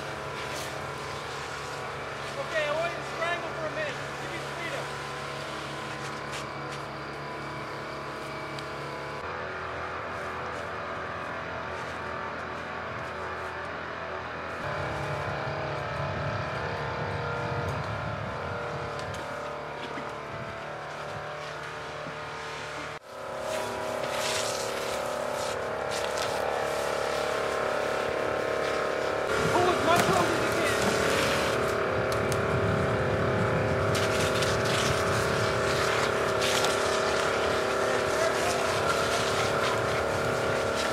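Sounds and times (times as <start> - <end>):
small pump engine running: 0.0 - 40.9.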